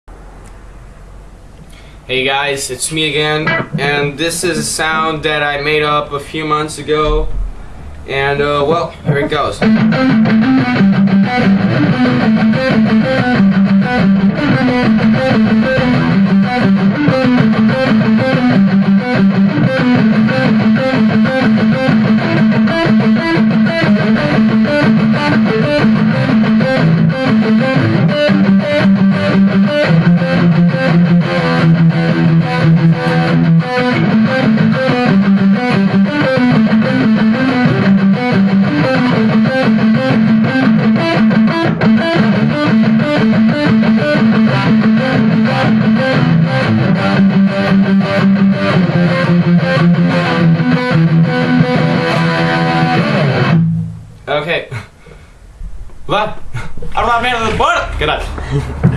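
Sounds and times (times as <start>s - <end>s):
electric guitar riff: 3.2s - 58.9s.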